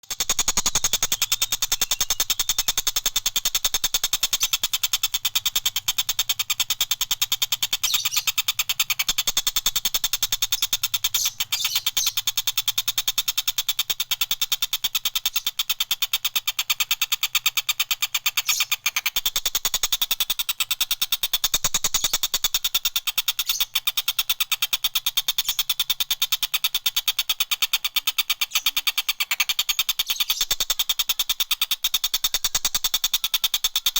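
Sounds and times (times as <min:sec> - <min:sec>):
kingfisher rattling call: 0:00.0 - 0:33.9.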